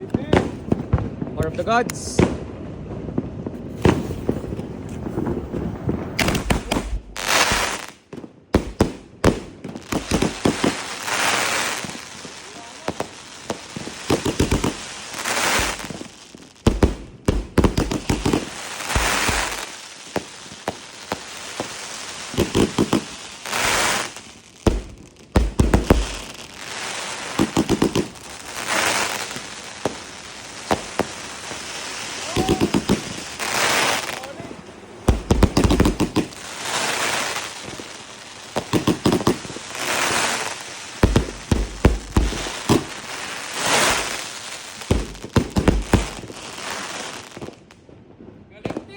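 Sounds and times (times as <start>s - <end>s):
firework bangs: 0.0s - 48.9s
firework crackling: 0.0s - 48.9s
firework hissing: 3.5s - 47.5s.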